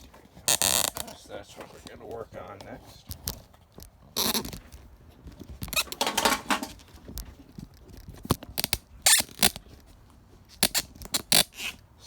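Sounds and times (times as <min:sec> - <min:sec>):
scraping and rustling: 0:00.0 - 0:12.0.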